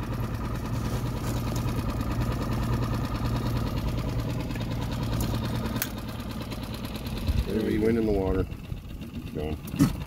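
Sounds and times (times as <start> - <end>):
boat engine idling: 0.0 - 10.0.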